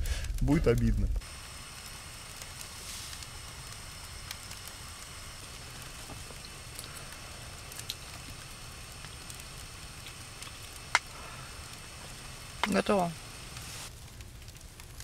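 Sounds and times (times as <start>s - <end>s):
steady low hiss: 0.0s - 15.0s
wood stove crackling: 0.0s - 15.0s.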